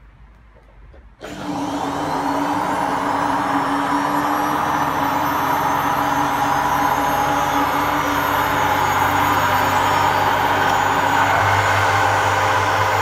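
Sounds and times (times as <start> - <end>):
washing machine motor whine: 1.2 - 13.0.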